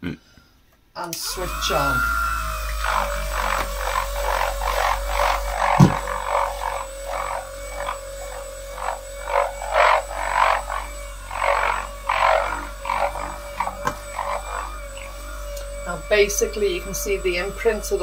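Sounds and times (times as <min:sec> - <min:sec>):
electric buffer motor whine: 0:01.1 - 0:18.0
polishing pad swishing: 0:01.2 - 0:18.0.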